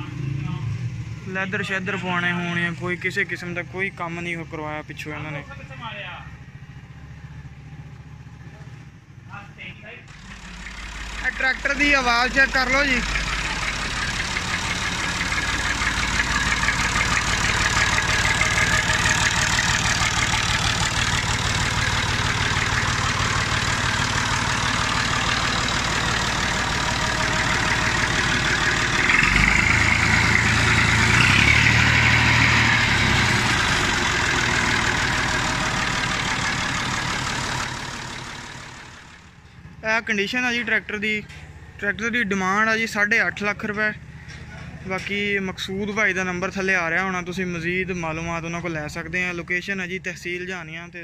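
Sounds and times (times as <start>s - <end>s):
tractor diesel engine idling: 0.0s - 51.0s.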